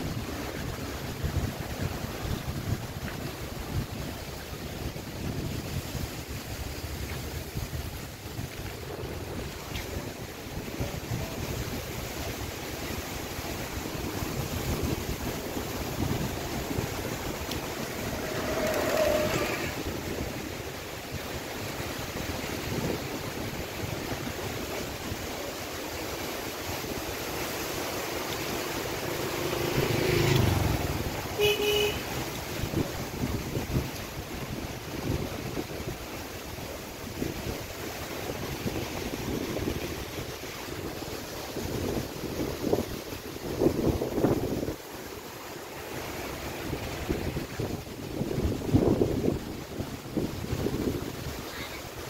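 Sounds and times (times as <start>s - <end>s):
wind buffeting microphone: 0.0s - 25.4s, 26.7s - 52.0s.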